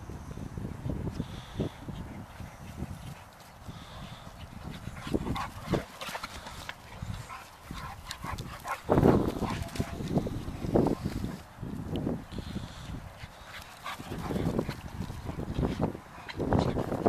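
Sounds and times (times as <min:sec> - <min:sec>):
dogs playing: 0:01.3 - 0:11.6, 0:12.4 - 0:17.0.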